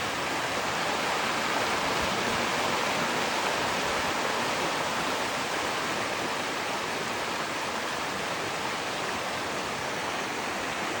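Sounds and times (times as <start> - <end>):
water rushing through channel: 0.0 - 11.0.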